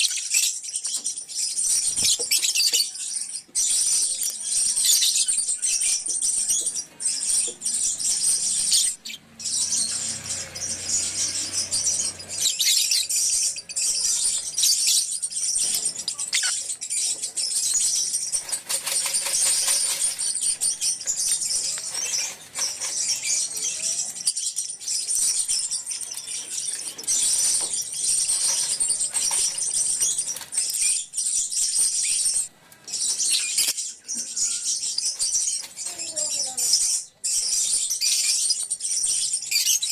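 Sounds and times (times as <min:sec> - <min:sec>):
lovebirds chattering and chirping: 0:00.0 - 0:39.9.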